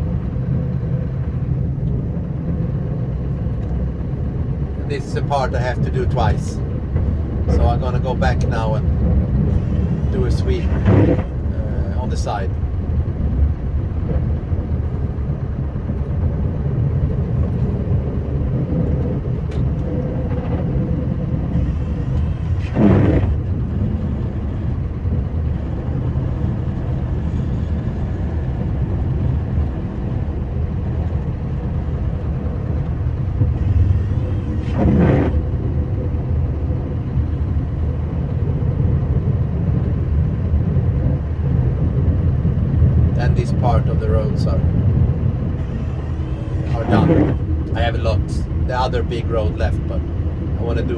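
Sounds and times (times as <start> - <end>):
diesel truck engine rumbling: 0.0 - 50.9.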